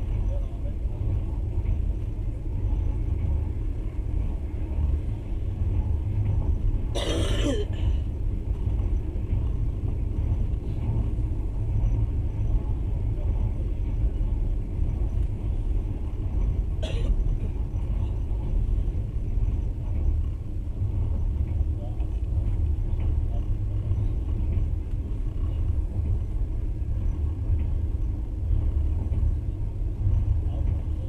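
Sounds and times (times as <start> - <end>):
train rumble inside carriage: 0.0 - 31.0.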